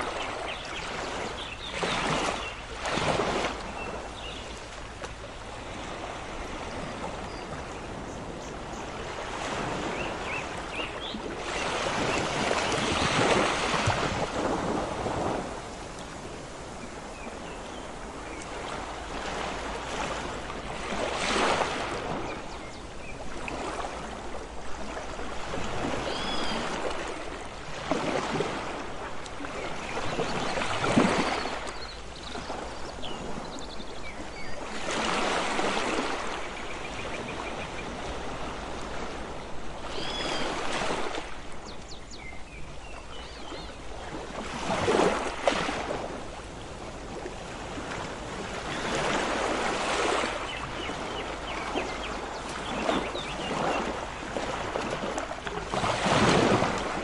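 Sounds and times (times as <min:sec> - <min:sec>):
sea waves breaking on beach: 0:00.0 - 0:57.0.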